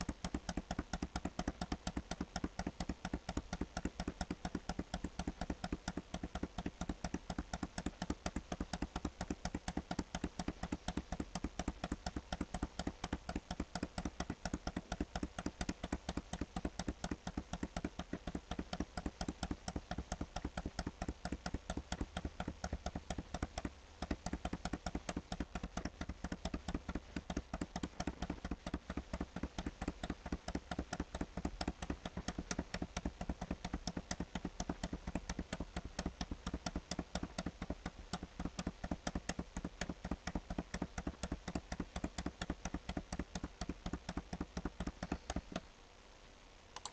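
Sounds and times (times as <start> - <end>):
computer mouse clicking: 0.0 - 45.7.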